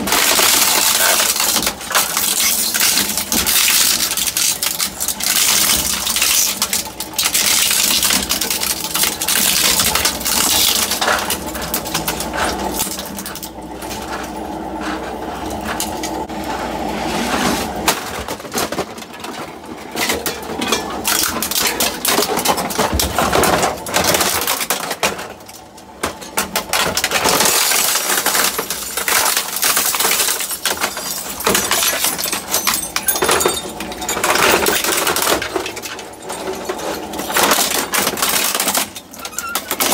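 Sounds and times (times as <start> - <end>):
shredder crunching plastic: 0.0 - 39.9
shredder machine drone: 0.0 - 39.9.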